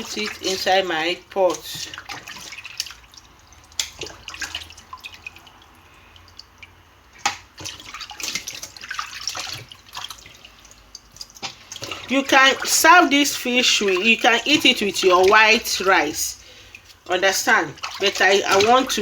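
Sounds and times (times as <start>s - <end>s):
tap water splashing in sink: 0.0s - 19.0s.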